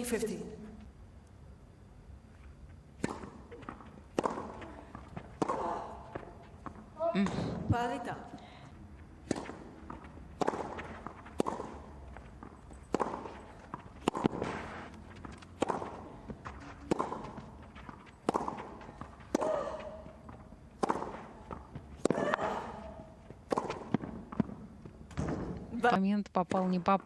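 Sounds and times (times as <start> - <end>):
racquets hitting tennis ball: 2.9 - 7.8, 9.0 - 25.8, 26.4 - 27.0.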